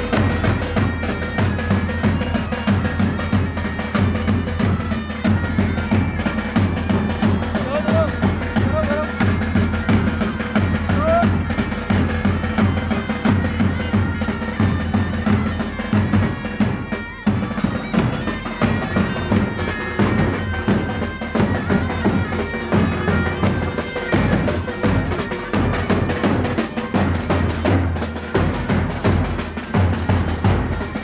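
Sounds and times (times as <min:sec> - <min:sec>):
bagpipe melody over drones: 0:00.0 - 0:31.0
drums beating: 0:00.0 - 0:31.0.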